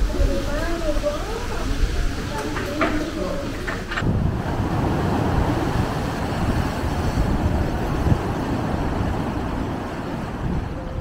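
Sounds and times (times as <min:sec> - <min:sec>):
sea waves breaking on rocks: 0:00.0 - 0:11.0
wind rumbling on microphone: 0:00.0 - 0:11.0.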